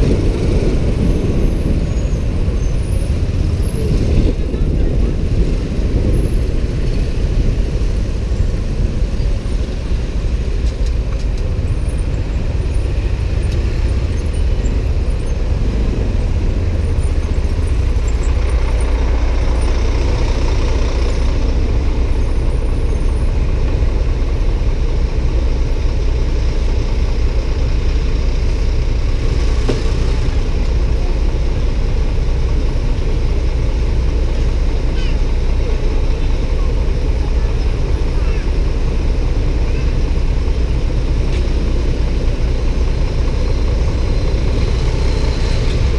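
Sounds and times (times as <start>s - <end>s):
motorbike engine rumble: 0.0s - 45.9s
road noise: 0.0s - 45.9s.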